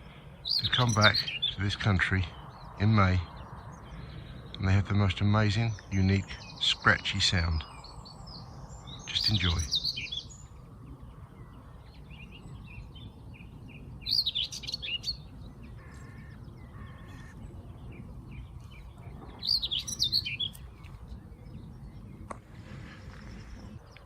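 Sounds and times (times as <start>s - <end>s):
bird singing scratchy phrases: 0.0s - 24.0s
other birds calling: 0.0s - 24.0s.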